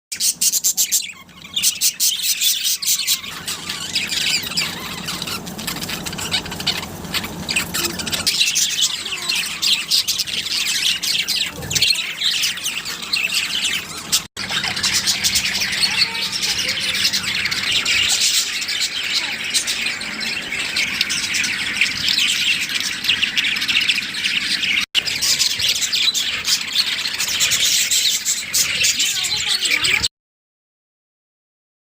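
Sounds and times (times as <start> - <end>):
birds chirping and squawking: 0.1 - 30.1.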